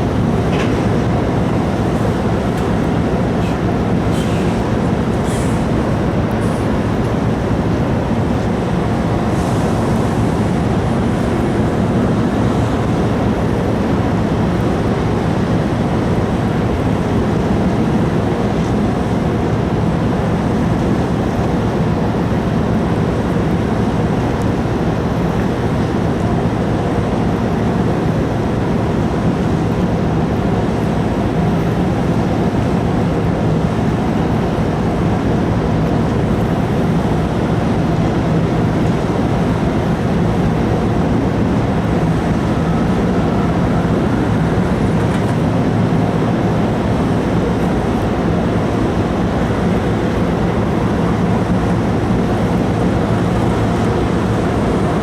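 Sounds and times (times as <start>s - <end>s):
ferry engine drone: 0.0s - 55.0s
rushing water: 0.0s - 55.0s
wind: 0.0s - 55.0s.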